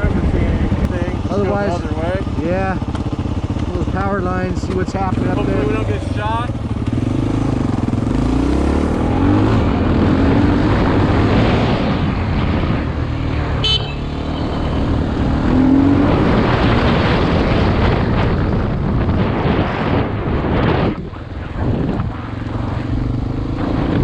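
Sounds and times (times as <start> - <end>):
motorcycle engine revving: 0.0 - 24.0
wind and road noise: 0.0 - 24.0.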